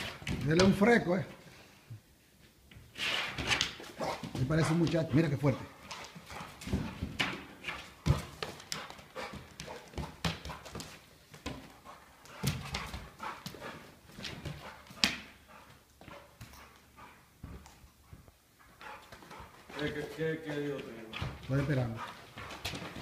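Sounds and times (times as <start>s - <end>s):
dog scuffling in play: 3.0s - 23.0s.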